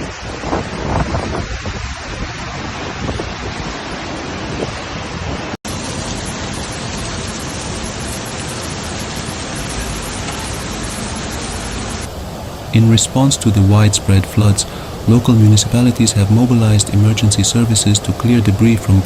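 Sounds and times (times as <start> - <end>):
storm rushing noise: 0.0 - 19.0.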